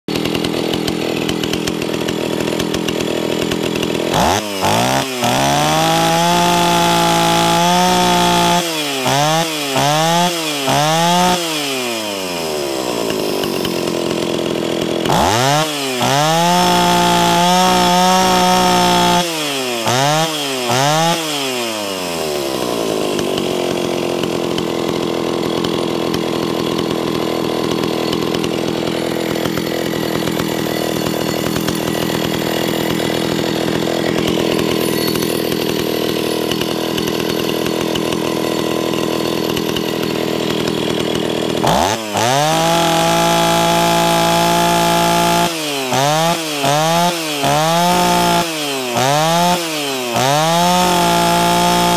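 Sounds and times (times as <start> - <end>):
chainsaw revving and idling: 0.0 - 51.9.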